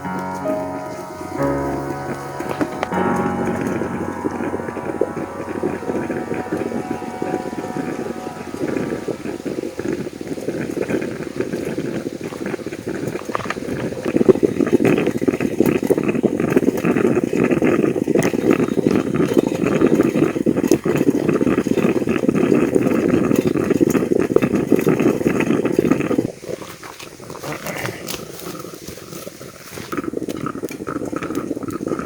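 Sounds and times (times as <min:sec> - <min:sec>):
campfire crackling: 0:00.0 - 0:32.0
coffee percolator bubbling: 0:00.0 - 0:32.0.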